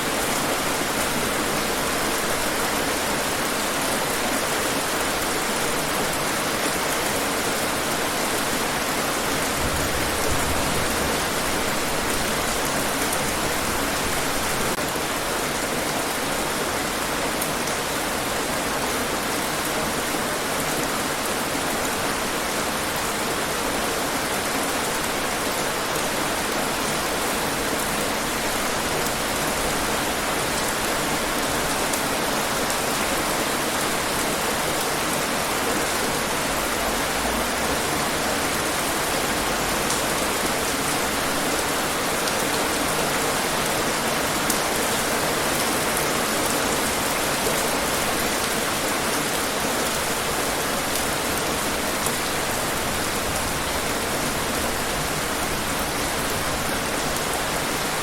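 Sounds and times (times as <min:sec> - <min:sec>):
rain on hard surfaces: 0:00.0 - 0:58.0.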